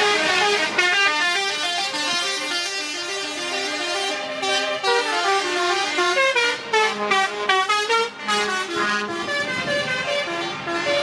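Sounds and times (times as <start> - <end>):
low steady horn tone: 0.0 - 11.0
truck musical air horn tune: 0.0 - 11.0.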